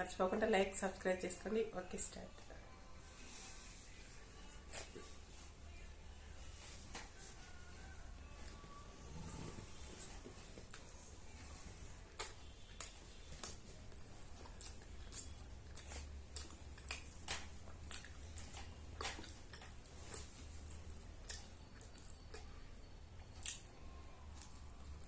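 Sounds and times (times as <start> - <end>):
faint low hum: 0.0 - 25.0
moist chewing: 3.9 - 5.8, 6.5 - 25.0.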